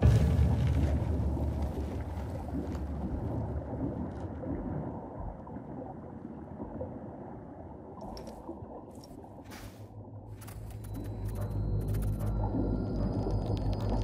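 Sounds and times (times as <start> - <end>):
deep underwater rumble: 0.0 - 14.0.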